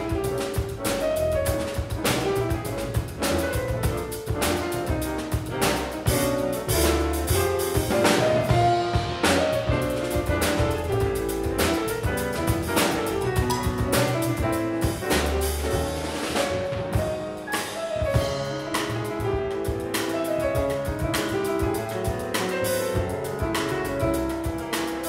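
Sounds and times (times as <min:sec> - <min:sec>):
acoustic piano: 0:00.0 - 0:25.0
drum kit with cymbals: 0:00.0 - 0:25.0
plucked double bass: 0:00.0 - 0:25.0.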